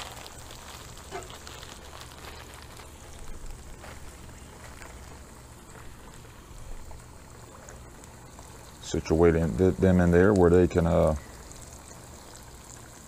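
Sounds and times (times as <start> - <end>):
fish sizzling in hot oil: 0.0 - 13.0
oil crackling: 0.0 - 13.0.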